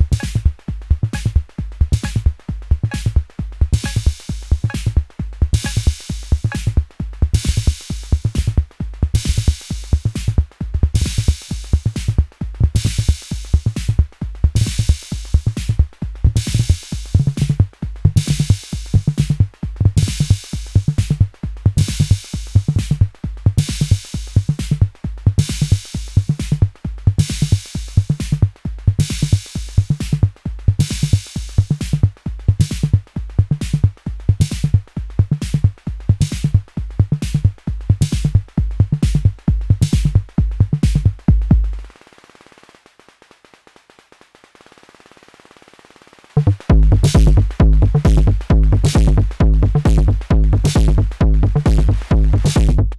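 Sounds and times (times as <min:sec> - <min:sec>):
drum machine beat: 0:00.0 - 0:42.0, 0:46.4 - 0:52.9.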